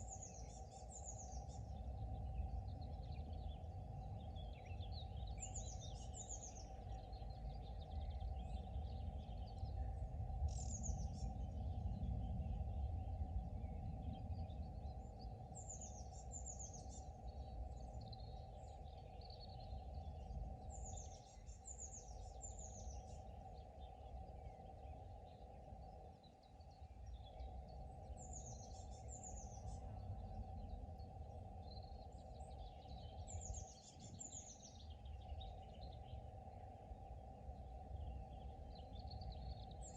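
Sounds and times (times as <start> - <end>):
steady low rumble: 0.0 - 21.0, 27.0 - 39.9
faint bird chirps: 0.0 - 39.9.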